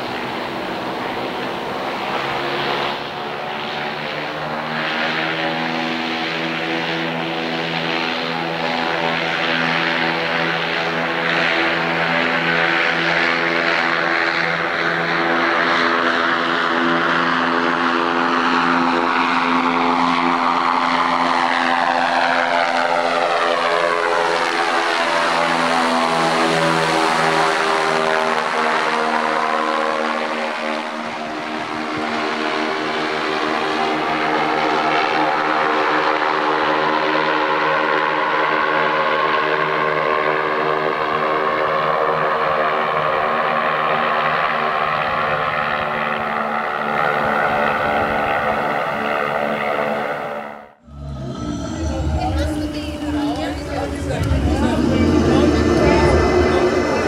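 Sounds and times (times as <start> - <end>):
propeller aircraft engine droning: 0.0 - 57.0.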